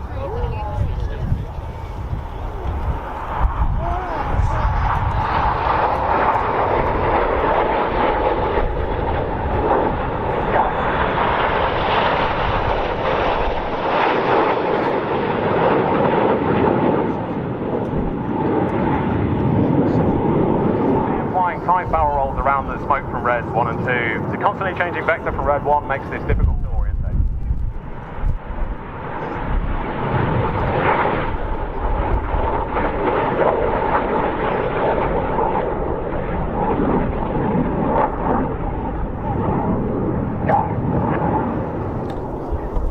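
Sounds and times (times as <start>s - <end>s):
jet aircraft rush with whine: 0.0s - 42.9s.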